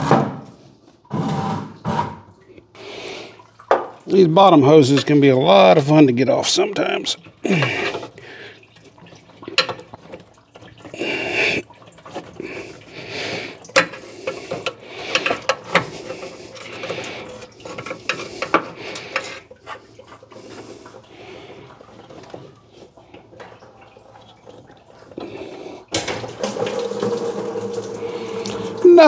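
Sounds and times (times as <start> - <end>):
coolant splashing: 2.4 - 29.0
coolant gushing into bucket: 2.5 - 29.0.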